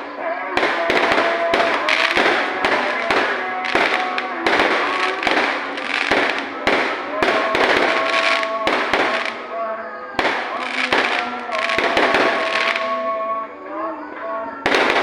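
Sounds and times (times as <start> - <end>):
fireworks crackling and hiss: 0.0 - 9.6, 10.2 - 13.0, 14.7 - 15.0
fireworks bangs: 0.0 - 15.0.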